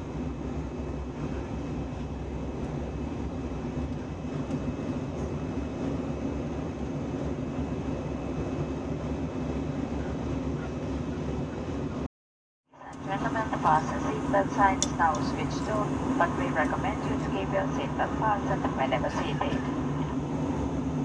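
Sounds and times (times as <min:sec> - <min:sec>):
airplane cabin engine rumble: 0:00.0 - 0:12.1, 0:12.8 - 0:21.0.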